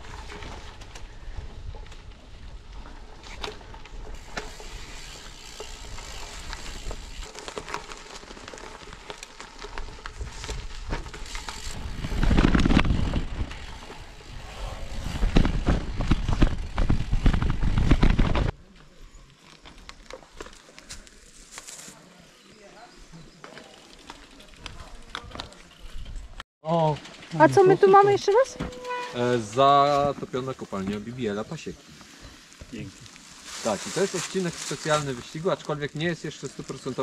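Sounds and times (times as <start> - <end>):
bicycle tyres rolling on gravel: 0.0 - 28.5, 29.2 - 37.0
gravel rumbling: 0.0 - 37.0.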